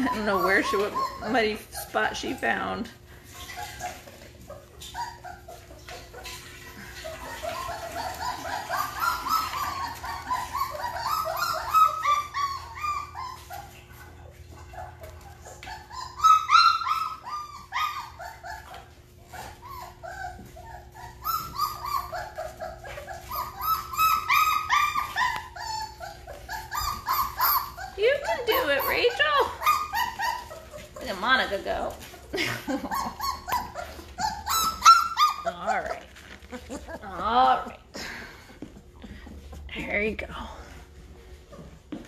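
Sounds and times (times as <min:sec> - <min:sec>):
puppies whining and squeaking: 0:00.0 - 0:42.0.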